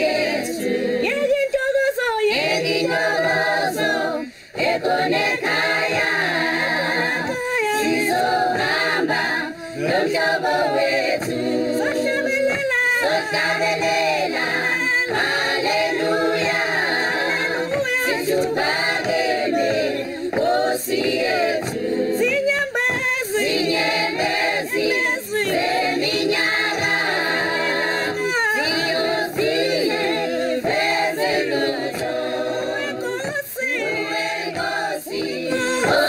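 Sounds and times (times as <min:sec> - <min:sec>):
choir singing a cappella: 0:00.0 - 0:36.0.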